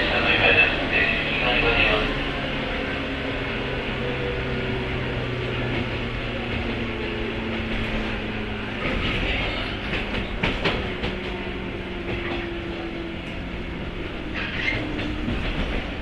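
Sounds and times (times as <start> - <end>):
train rolling noise: 0.0 - 16.0.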